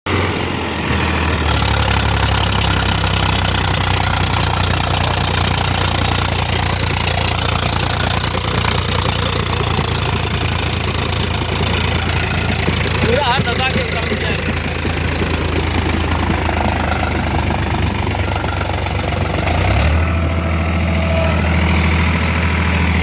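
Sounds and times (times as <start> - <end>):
tractor diesel engine clattering: 0.0 - 23.0.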